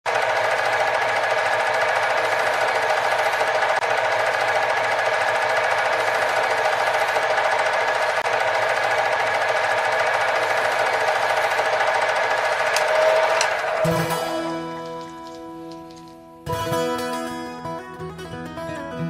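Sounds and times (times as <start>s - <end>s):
film projector clatter: 0.1s - 17.2s.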